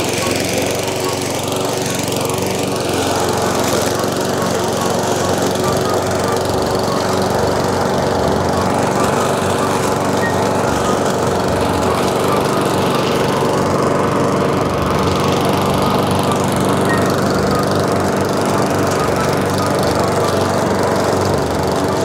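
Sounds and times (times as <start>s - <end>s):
push mower engine running: 0.0s - 22.0s.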